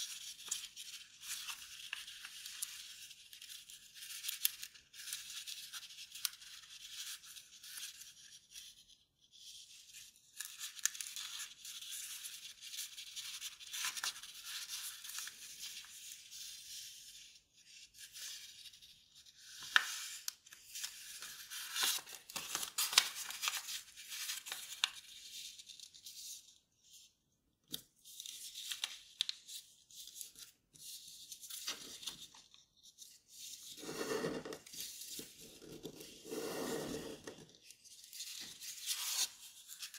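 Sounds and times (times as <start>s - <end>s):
paper rustling and crinkling: 0.0s - 8.6s, 10.3s - 16.8s, 17.9s - 26.3s, 28.0s - 36.4s, 37.2s - 39.9s.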